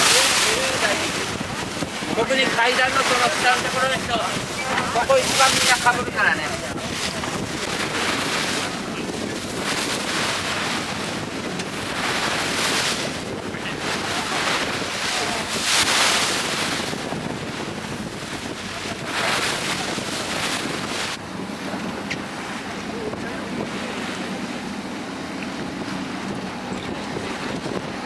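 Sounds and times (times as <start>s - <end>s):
sea water splashing against boat: 0.0s - 28.0s
wind buffeting microphone: 0.0s - 28.0s.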